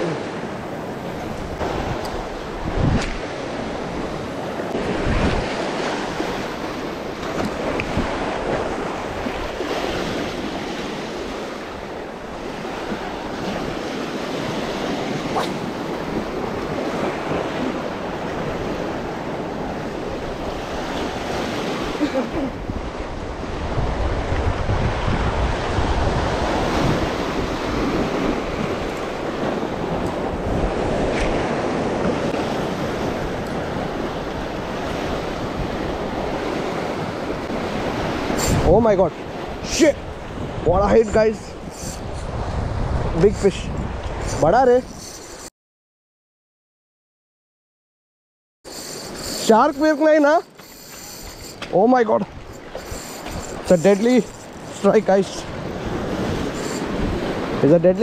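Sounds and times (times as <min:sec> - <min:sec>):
wind buffeting microphone: 0:00.3 - 0:45.5, 0:48.8 - 0:58.0.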